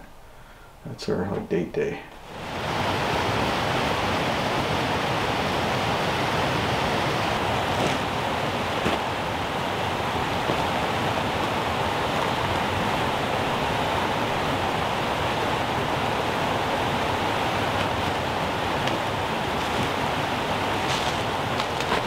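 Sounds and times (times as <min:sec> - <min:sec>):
water rushing over waterfall: 0:02.3 - 0:22.0.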